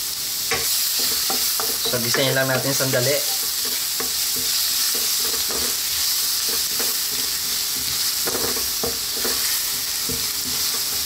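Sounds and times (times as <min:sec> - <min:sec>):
ginger and garlic sizzling: 0:00.0 - 0:11.0.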